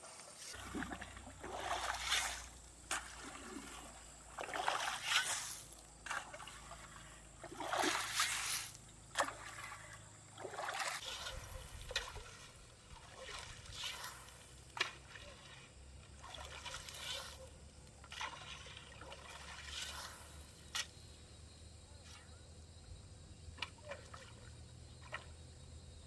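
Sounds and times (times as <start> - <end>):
stream water splashing: 0.0 - 21.1.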